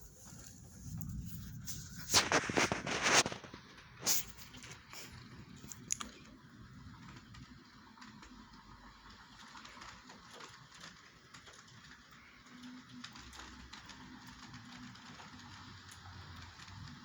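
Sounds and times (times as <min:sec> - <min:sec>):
faint rain hiss: 0:00.0 - 0:17.0
raindrops ticking on hard surface: 0:00.1 - 0:17.0.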